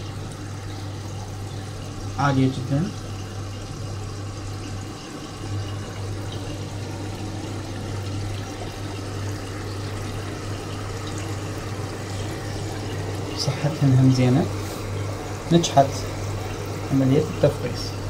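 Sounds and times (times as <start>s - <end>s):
aeration pump hum: 0.0s - 18.0s
water bubbling and trickling: 0.0s - 18.0s.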